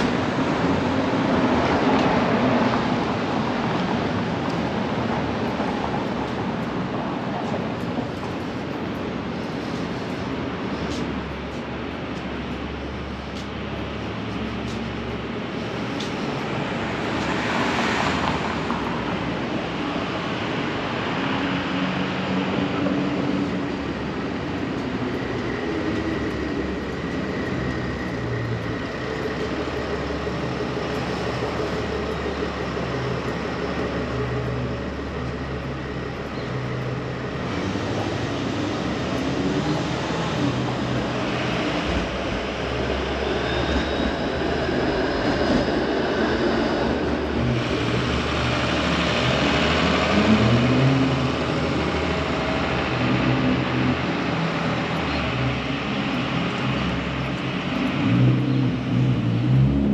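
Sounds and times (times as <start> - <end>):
street traffic: 0.0 - 59.9.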